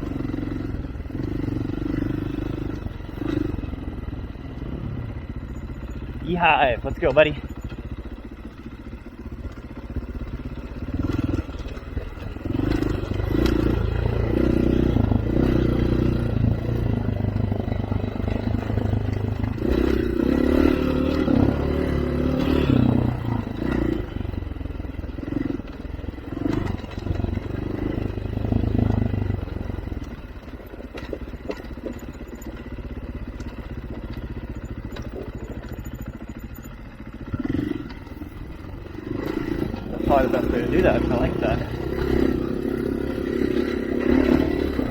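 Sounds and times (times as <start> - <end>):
off-road vehicle engine revving: 0.0 - 5.2, 6.0 - 44.9.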